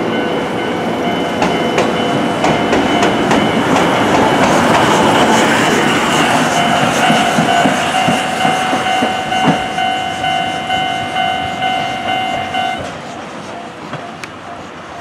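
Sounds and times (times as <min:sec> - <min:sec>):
level-crossing warning bell ringing: 0:00.0 - 0:12.9
steam locomotive rolling past: 0:00.0 - 0:15.0
train wheels clicking over rail joints: 0:01.2 - 0:15.0.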